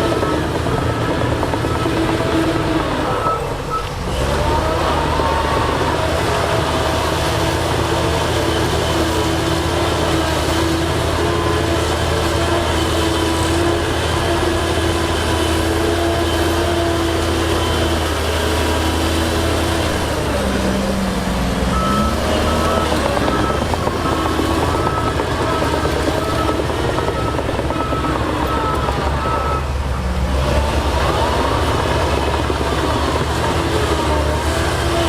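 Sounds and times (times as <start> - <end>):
heavy machinery diesel engines: 0.0 - 35.0.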